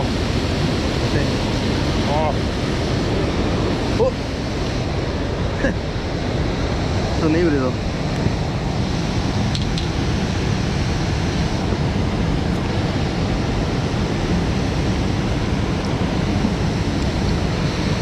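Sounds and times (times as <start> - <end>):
water roaring out of dam: 0.0 - 18.0
wind buffeting microphone: 0.0 - 18.0.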